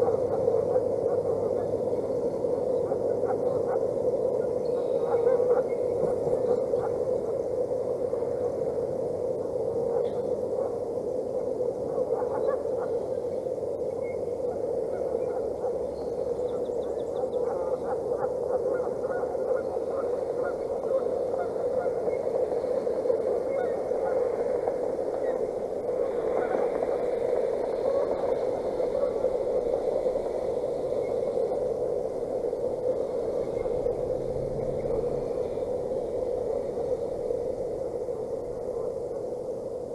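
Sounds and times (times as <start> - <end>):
frogs chorus trilling: 0.0 - 39.9
steady background noise: 0.0 - 39.9.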